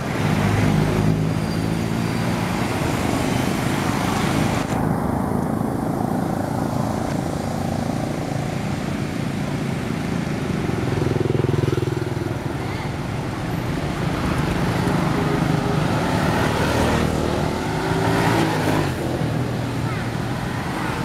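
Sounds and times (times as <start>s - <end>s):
road and traffic noise: 0.0s - 21.0s
vehicle engine hum: 0.0s - 21.0s.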